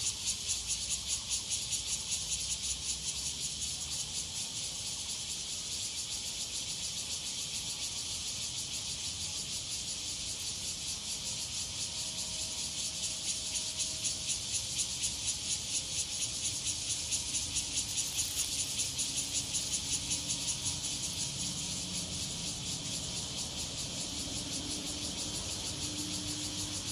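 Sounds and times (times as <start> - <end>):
cicadas buzzing: 0.0 - 26.9.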